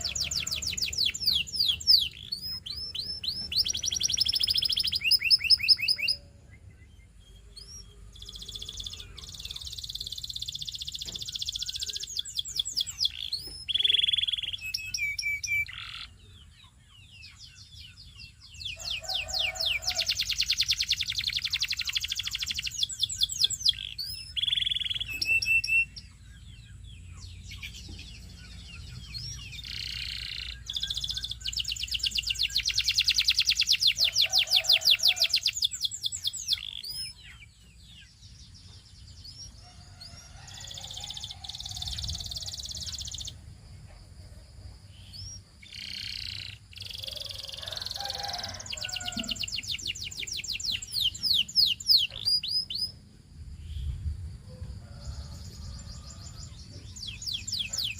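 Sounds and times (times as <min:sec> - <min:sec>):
canary singing trills: 0:00.0 - 0:54.0, 0:54.8 - 0:57.9.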